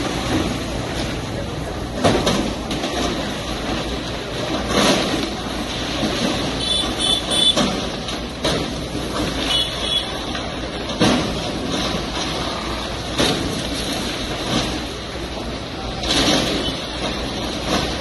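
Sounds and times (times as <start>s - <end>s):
debris crashing down: 0.0s - 18.0s
excavator engine under load: 0.0s - 18.0s.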